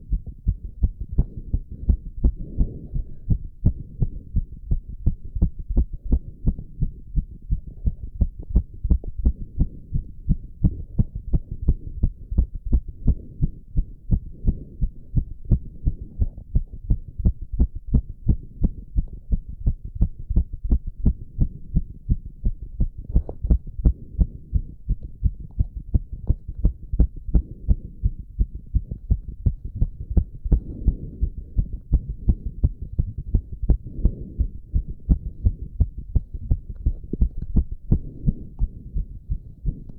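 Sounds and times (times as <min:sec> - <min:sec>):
fast heartbeat thumps: 0:00.0 - 0:39.9
steady low background: 0:00.0 - 0:39.9.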